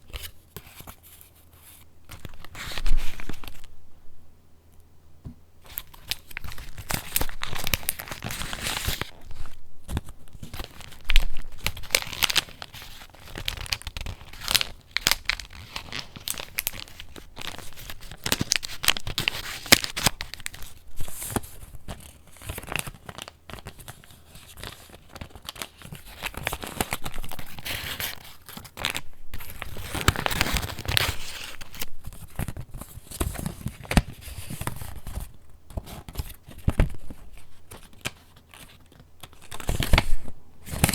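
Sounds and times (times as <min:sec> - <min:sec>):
paper rustling and crinkling: 0:00.0 - 0:03.7, 0:05.7 - 0:40.9.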